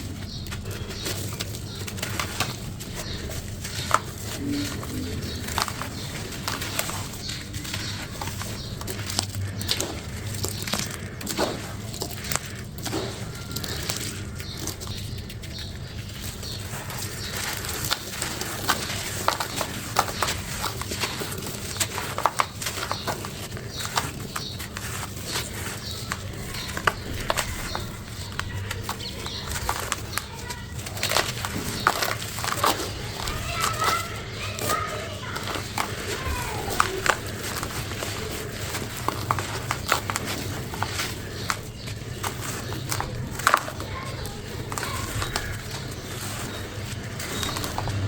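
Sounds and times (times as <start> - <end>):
crumble pieces crunching: 0.0 - 48.0.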